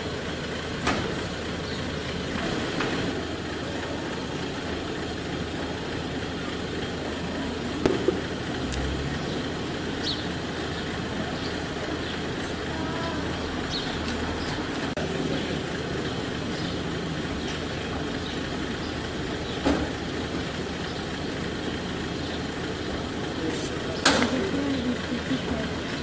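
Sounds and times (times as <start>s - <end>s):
jeep engine idling: 0.0s - 26.0s.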